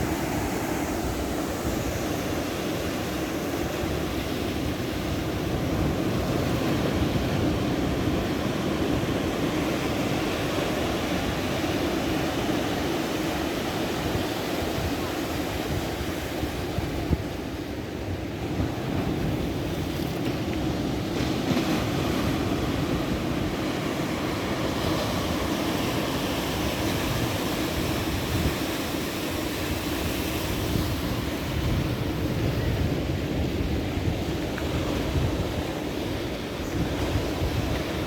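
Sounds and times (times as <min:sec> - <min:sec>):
ocean surf washing in: 0:00.0 - 0:38.0.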